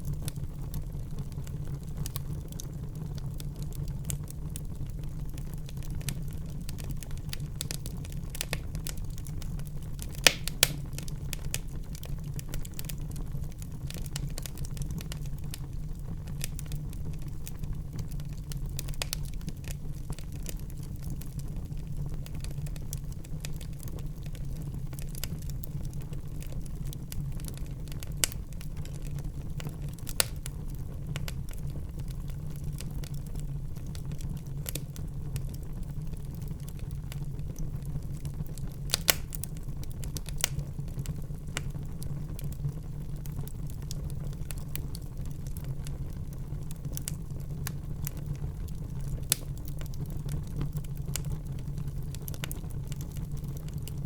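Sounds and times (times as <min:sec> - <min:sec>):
fire popping: 0:00.0 - 0:54.0
wood fire crackling: 0:00.0 - 0:54.0.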